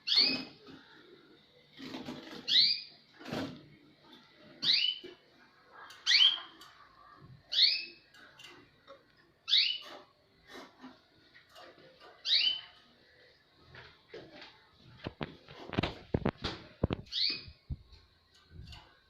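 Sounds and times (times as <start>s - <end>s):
cage bird chirping: 0.0s - 19.0s.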